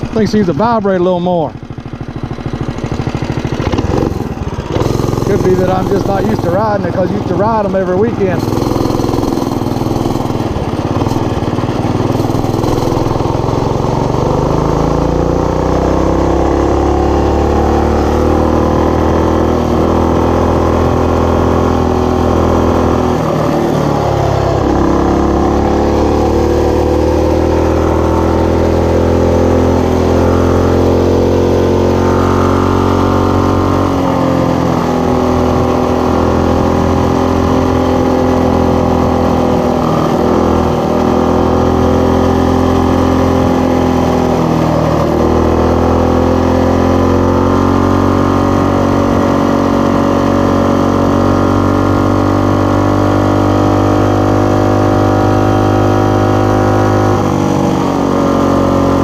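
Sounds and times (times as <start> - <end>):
mini bike engine running: 0.0 - 59.0.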